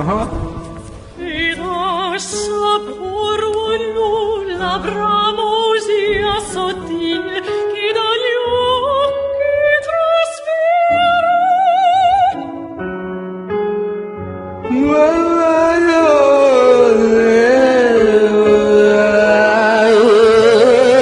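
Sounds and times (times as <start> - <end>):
operatic singing voice: 0.0 - 12.4, 14.7 - 21.0
musical accompaniment: 0.0 - 21.0.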